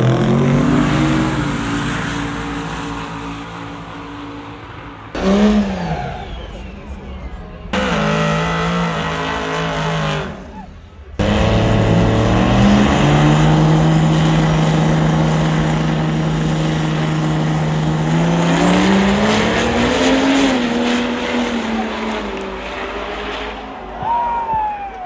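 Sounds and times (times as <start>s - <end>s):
truck engine revving high: 0.0s - 24.6s.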